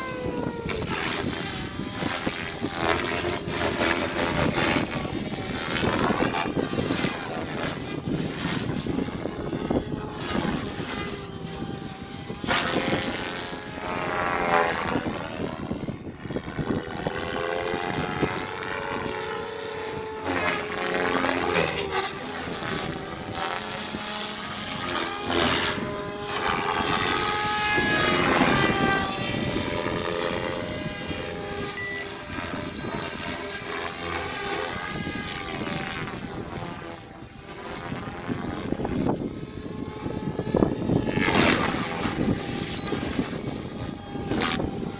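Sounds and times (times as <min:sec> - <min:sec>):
rc helicopter rotor whine: 0:00.0 - 0:44.9
wind noise: 0:00.0 - 0:44.9.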